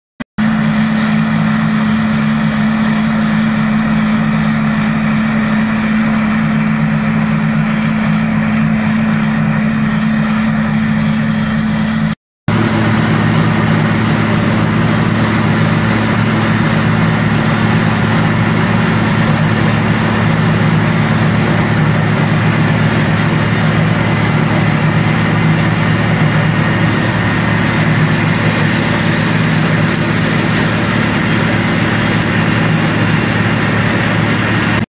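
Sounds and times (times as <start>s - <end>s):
rotor grinding gravel: 0.4s - 34.8s
diesel engine droning: 0.4s - 34.9s.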